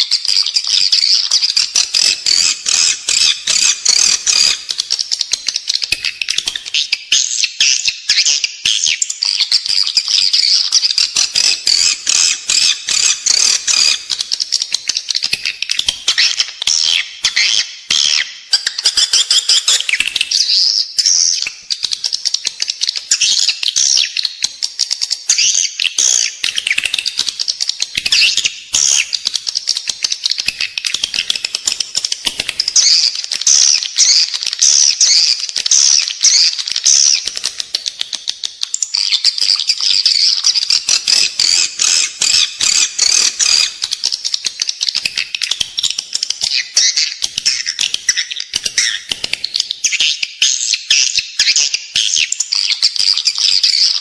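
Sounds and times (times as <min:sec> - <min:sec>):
swiftlets twittering and chirping: 0:00.0 - 0:54.0.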